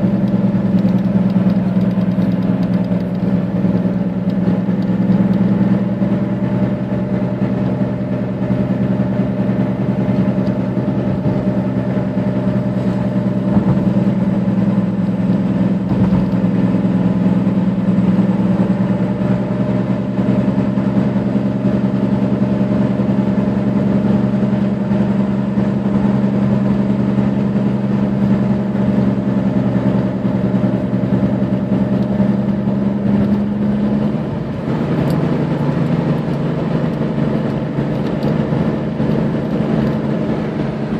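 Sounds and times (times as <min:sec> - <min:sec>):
car pitched drone: 0:00.0 - 0:40.9
low hum: 0:00.0 - 0:40.9.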